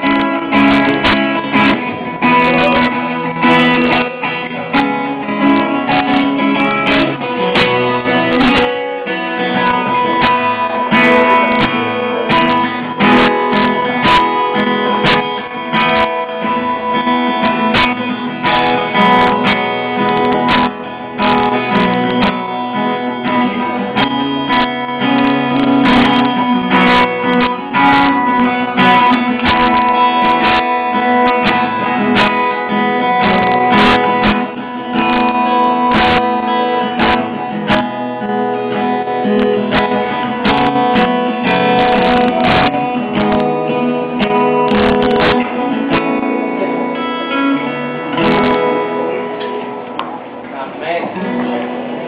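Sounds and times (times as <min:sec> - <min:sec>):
strummed acoustic guitar: 0:00.0 - 0:52.0.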